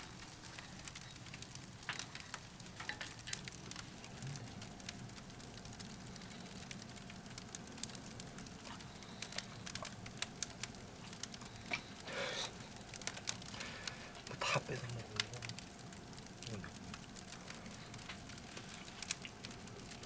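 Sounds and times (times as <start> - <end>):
firewood crackling in a stove: 0.0 - 20.0.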